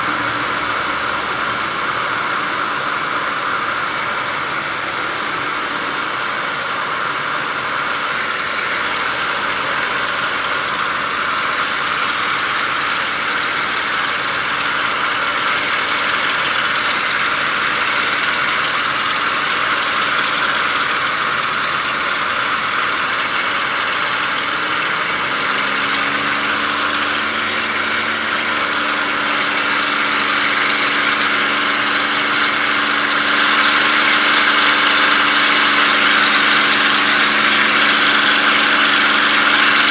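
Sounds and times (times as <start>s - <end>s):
aircraft engine running in flight: 0.0s - 39.9s.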